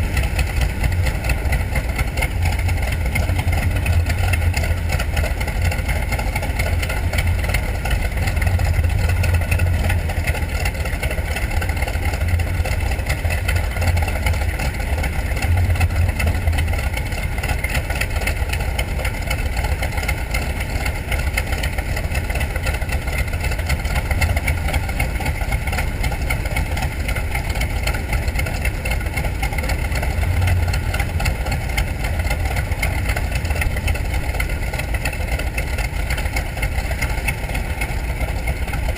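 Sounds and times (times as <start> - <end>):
radial aircraft engine running: 0.0 - 38.9.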